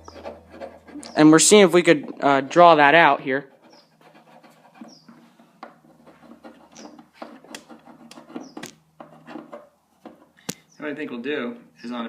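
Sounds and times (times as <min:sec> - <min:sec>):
compass scratching on wood: 0:00.0 - 0:10.4.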